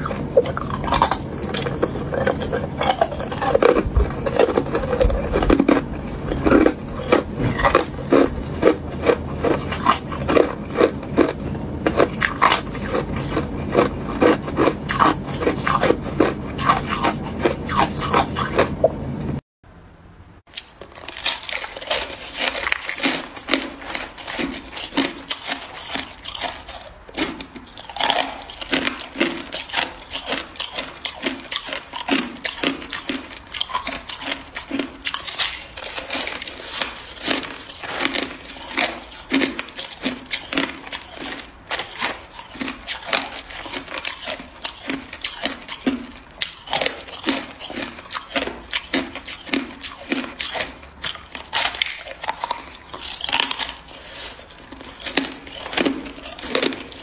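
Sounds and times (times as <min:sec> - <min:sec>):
ice crunching as it is chewed: 0:00.0 - 0:18.9, 0:20.5 - 0:57.0.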